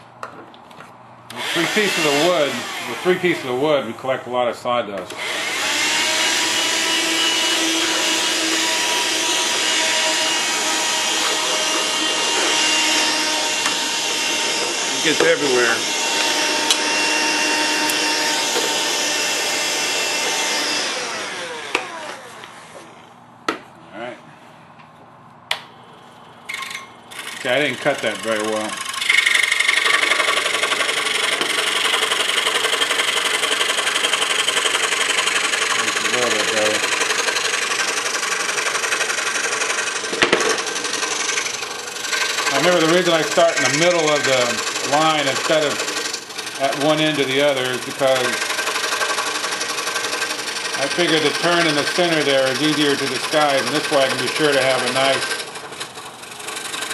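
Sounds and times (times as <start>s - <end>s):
scroll saw cutting wood: 1.3s - 4.2s, 5.1s - 23.0s, 27.1s - 56.9s.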